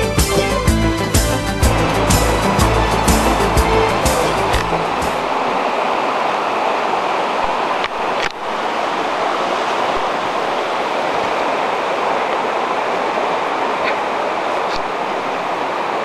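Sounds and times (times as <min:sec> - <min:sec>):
mountain river rushing: 0:00.0 - 0:16.0.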